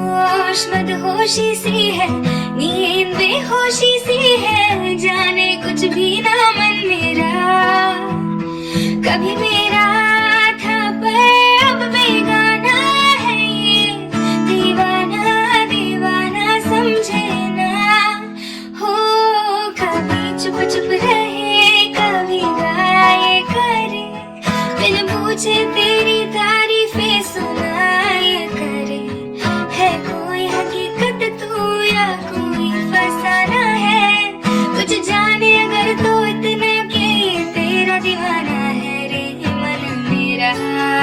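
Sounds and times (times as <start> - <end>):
plucked acoustic guitar: 0.0 - 41.0
woman singing: 0.0 - 41.0.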